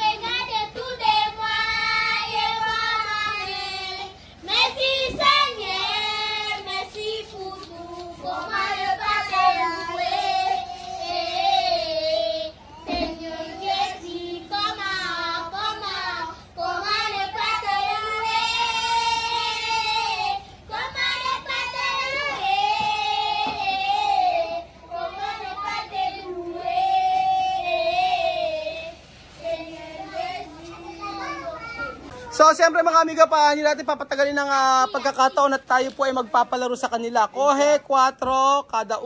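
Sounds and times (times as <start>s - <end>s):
children singing: 0.0s - 32.2s.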